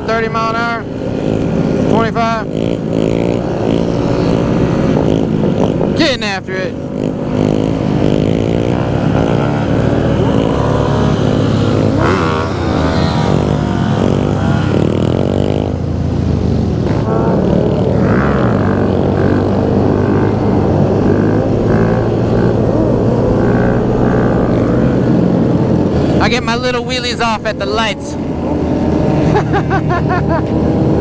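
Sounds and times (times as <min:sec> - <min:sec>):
motorcycle engines accelerating: 0:00.0 - 0:31.0.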